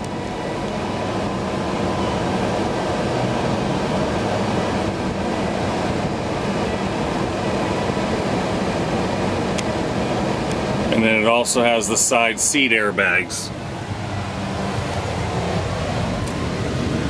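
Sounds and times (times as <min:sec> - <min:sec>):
air conditioning blowing: 0:00.0 - 0:17.0
car cabin engine running: 0:00.0 - 0:17.0.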